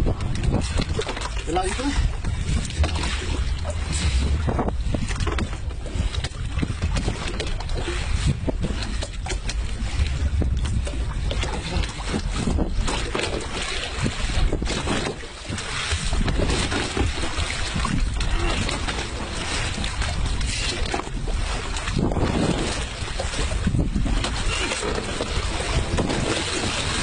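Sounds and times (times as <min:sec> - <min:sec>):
water: 0:00.0 - 0:27.0
wind buffeting microphone: 0:00.0 - 0:27.0.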